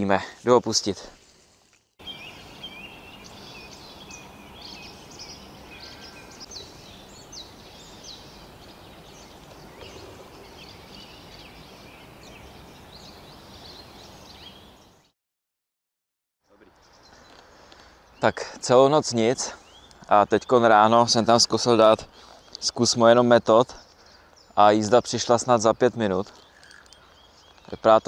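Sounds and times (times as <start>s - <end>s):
songbirds chirping and whistling: 1.9s - 15.1s, 16.6s - 28.0s.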